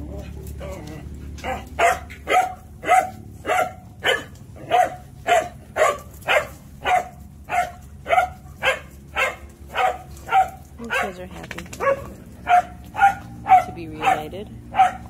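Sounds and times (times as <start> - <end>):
dog barking: 1.4 - 11.2, 11.8 - 15.0.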